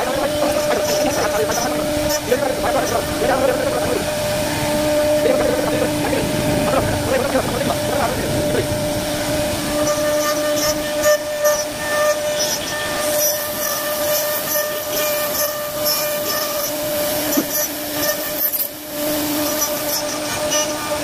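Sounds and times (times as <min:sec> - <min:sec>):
router spindle whining: 0:00.0 - 0:21.0.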